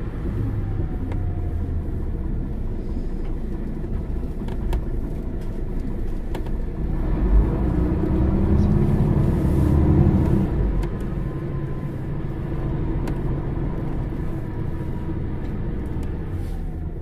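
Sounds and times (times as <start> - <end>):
bus diesel engine idling: 0.0 - 17.0.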